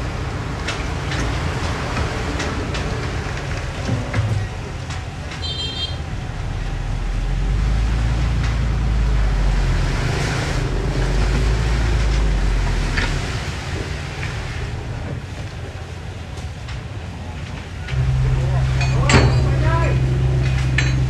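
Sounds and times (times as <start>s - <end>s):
heavy machinery diesel engine: 0.0s - 21.0s.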